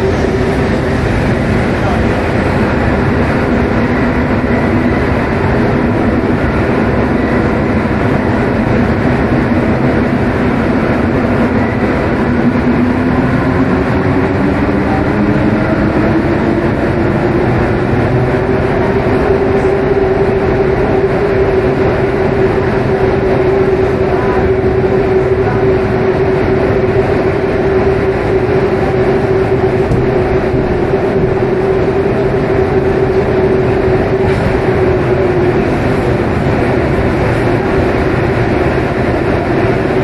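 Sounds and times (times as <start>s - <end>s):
train rumbling through tunnel: 0.0s - 40.0s.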